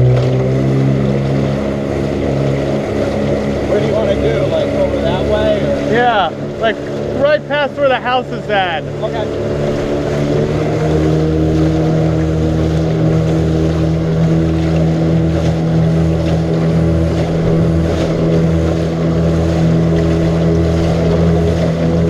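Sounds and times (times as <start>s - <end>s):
outboard motor running: 0.0s - 22.0s
water splashing along hull: 0.0s - 22.0s.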